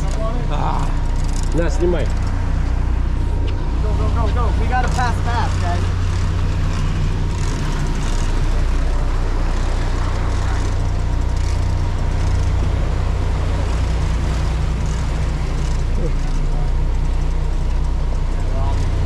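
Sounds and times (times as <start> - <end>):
boat engine humming: 0.0 - 19.0
water: 0.0 - 19.0.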